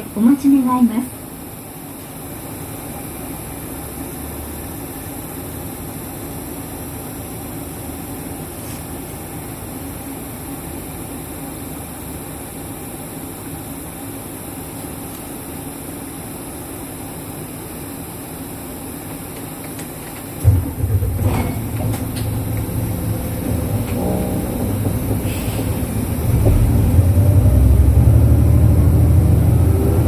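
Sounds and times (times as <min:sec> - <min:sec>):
bus diesel engine running: 0:00.0 - 0:30.0.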